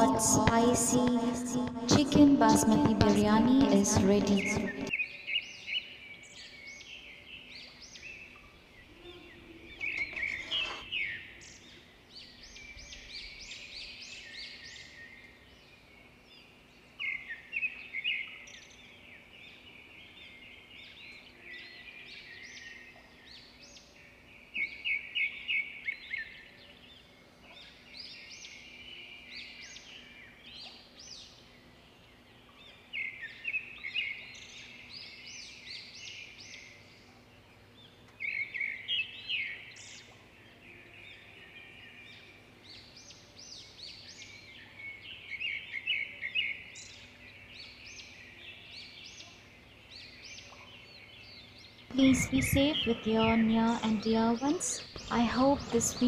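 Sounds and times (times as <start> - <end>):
faint steady hum: 0.0 - 5.2, 5.9 - 56.0
small birds chirping: 0.0 - 56.0.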